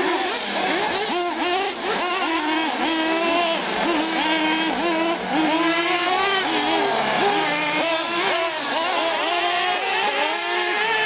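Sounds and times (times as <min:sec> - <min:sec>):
model car engines buzzing: 0:00.0 - 0:11.0.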